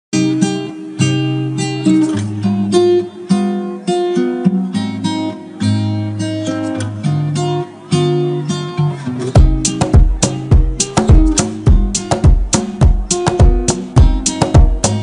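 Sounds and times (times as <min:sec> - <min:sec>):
acoustic guitar music: 0:00.1 - 0:15.0.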